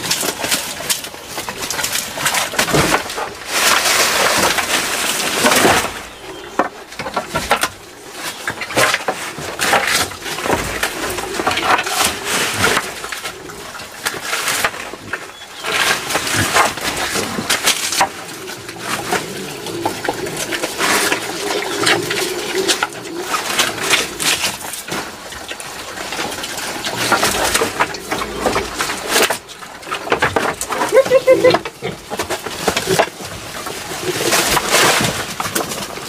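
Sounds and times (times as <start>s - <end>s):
boar chewing and crunching stems: 0.0s - 36.0s
leaves rustling: 0.0s - 36.0s.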